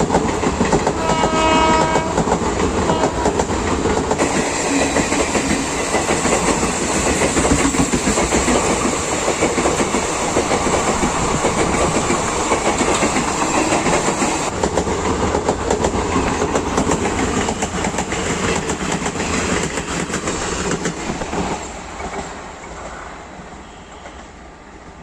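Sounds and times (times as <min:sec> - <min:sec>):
train wheels clattering: 0:00.0 - 0:22.9.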